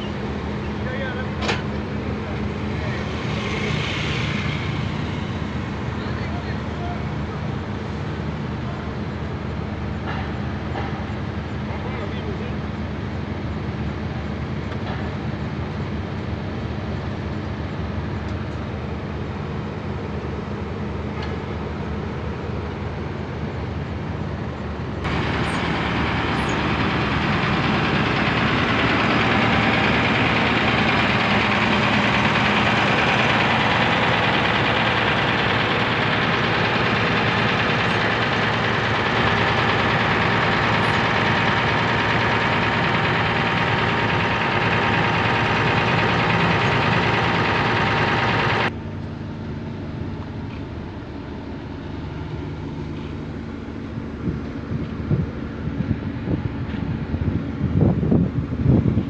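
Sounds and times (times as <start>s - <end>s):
bus engines idling: 0.0s - 59.0s.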